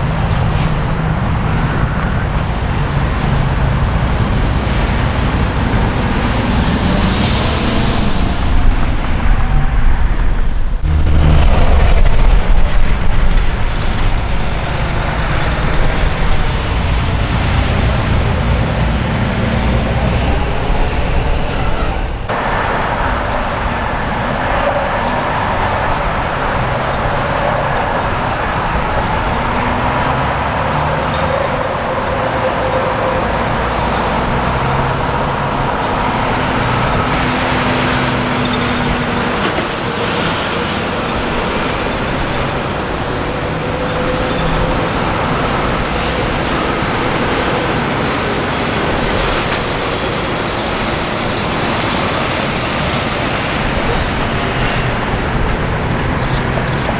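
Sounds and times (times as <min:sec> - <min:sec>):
diesel truck engines: 0:00.0 - 0:56.9
traffic passing: 0:00.0 - 0:56.9.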